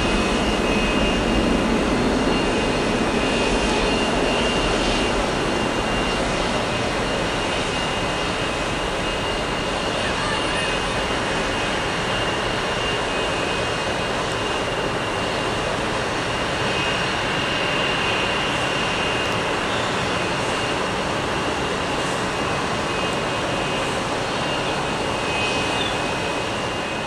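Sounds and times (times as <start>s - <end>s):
high steady engine whine: 0.0s - 27.0s
jet engines at takeoff: 0.0s - 27.0s.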